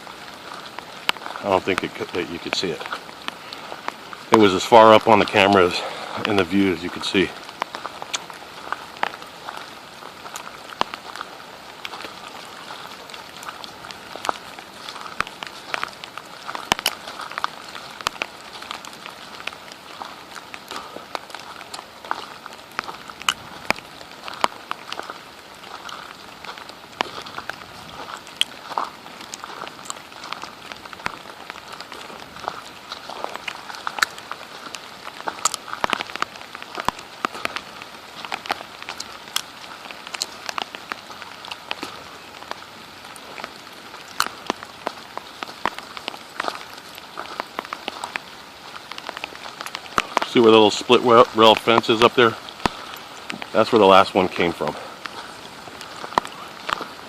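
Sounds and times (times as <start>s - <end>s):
steady rain falling: 0.0s - 57.0s
drops ticking close by: 0.3s - 57.0s.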